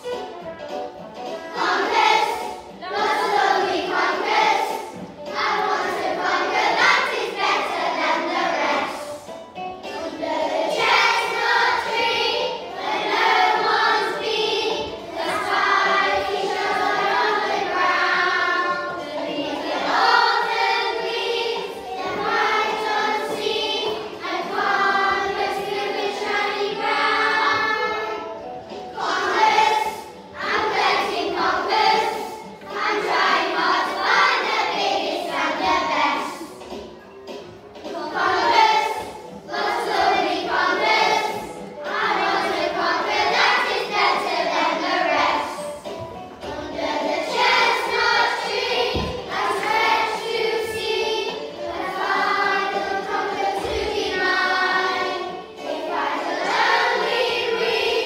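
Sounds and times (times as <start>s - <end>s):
children singing together: 0.0s - 58.0s.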